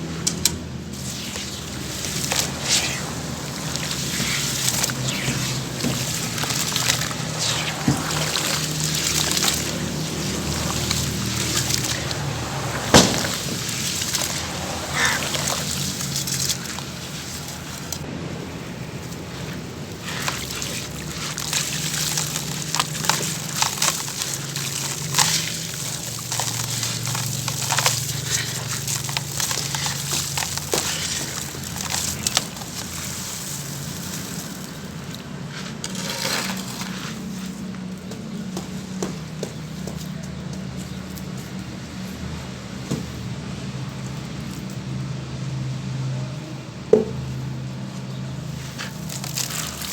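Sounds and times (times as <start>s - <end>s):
charcoal pouring and crunching: 0.0s - 46.1s, 47.0s - 49.9s.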